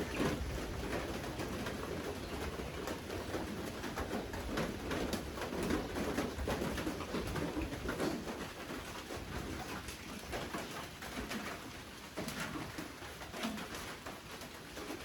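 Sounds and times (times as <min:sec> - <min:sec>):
raindrops dripping and pattering: 0:00.0 - 0:15.0.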